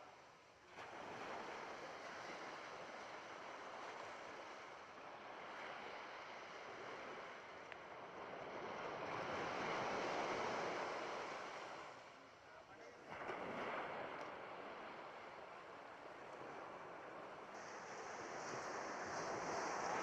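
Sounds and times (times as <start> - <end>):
sea surf washing: 0.8 - 20.0.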